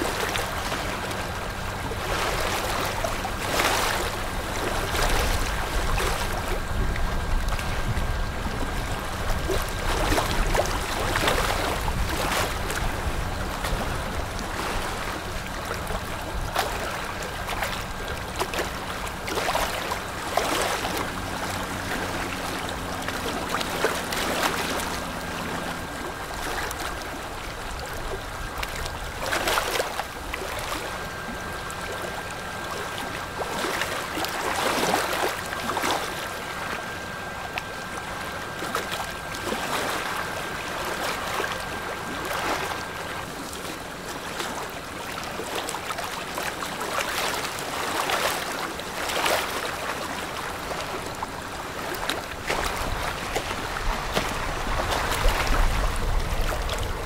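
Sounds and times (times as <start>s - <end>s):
river water lapping and splashing: 0.0s - 57.0s
steady rushing water: 0.0s - 57.0s.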